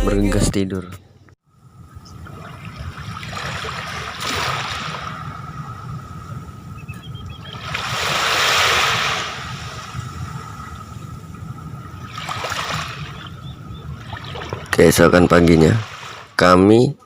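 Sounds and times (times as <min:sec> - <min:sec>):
ocean waves washing on beach: 0:02.1 - 0:16.4.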